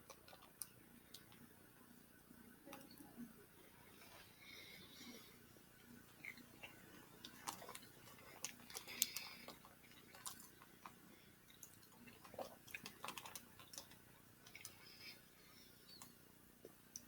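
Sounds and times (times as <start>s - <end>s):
wet chewing: 0.0s - 1.5s, 3.9s - 17.0s.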